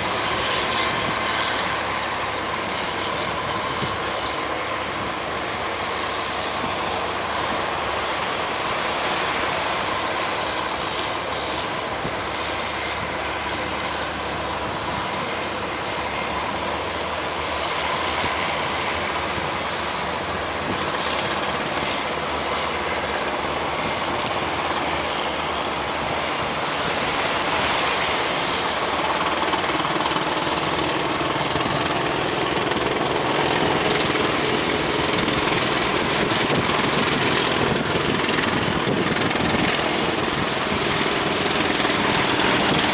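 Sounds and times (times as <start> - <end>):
big surf breaking: 0.0 - 42.9.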